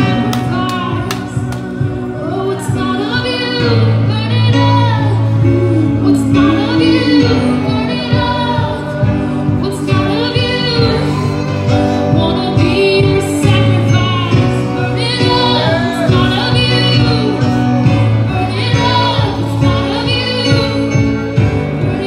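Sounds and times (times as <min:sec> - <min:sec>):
live band playing: 0:00.0 - 0:22.0
woman singing: 0:00.0 - 0:22.0.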